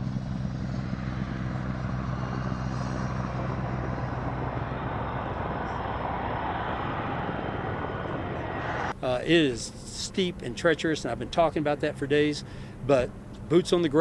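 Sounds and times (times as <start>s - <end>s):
aircraft engine droning: 0.0s - 14.0s.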